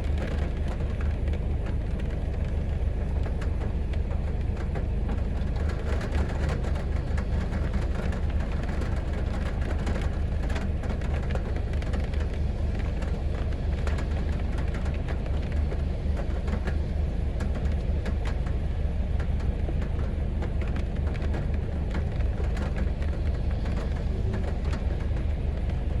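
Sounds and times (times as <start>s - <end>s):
deep low rumble: 0.0s - 26.0s
heavy rain on street: 0.0s - 26.0s.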